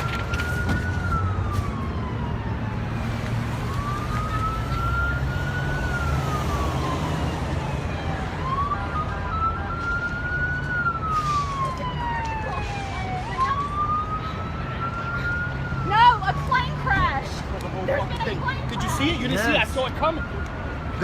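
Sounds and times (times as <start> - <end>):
emergency siren wailing: 0.0 - 21.0.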